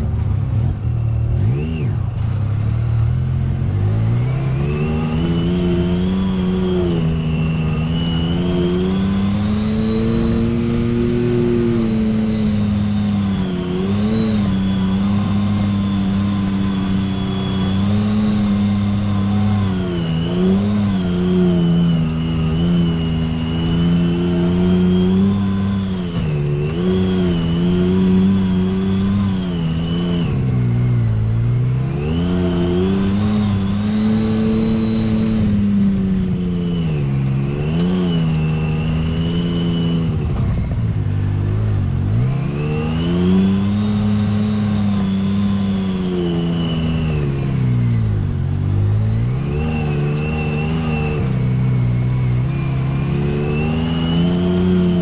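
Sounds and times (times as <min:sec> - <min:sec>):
utility vehicle engine revving: 0:00.0 - 0:55.0.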